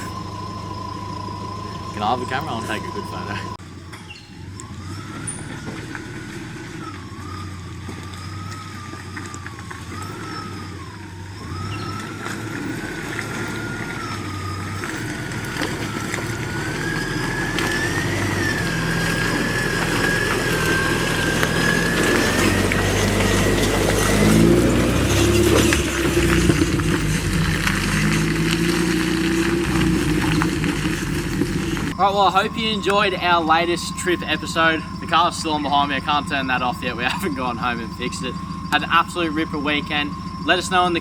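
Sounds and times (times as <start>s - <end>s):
vehicle engine: 0.0s - 41.0s
wavering whine rising in pitch: 0.0s - 41.0s.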